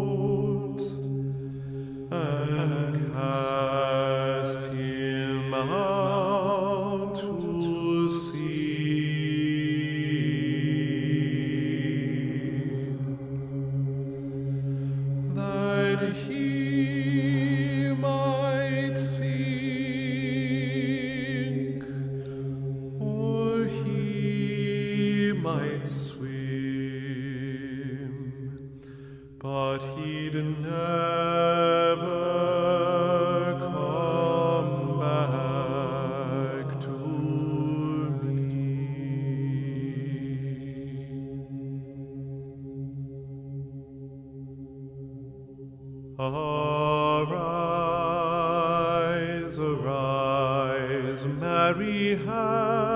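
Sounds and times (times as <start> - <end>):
person chanting with vibrato: 0.0 - 52.9
steady low drone: 0.0 - 52.9.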